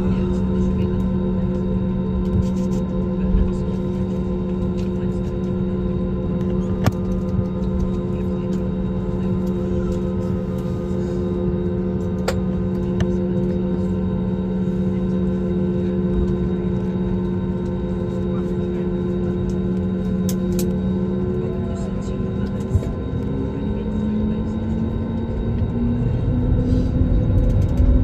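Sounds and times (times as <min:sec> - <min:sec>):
airliner engine and airflow rumble: 0:00.0 - 0:28.0.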